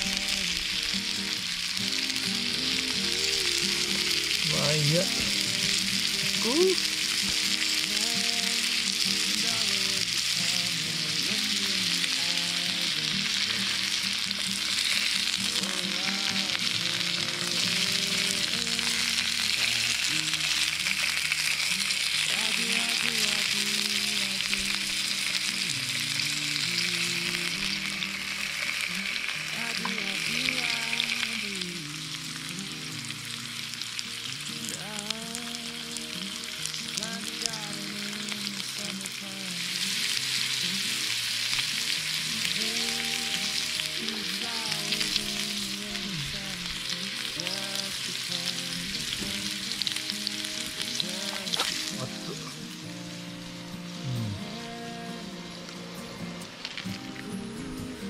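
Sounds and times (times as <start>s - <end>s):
meat sizzling in a frying pan: 0.0s - 58.0s
soft background music: 0.0s - 58.0s.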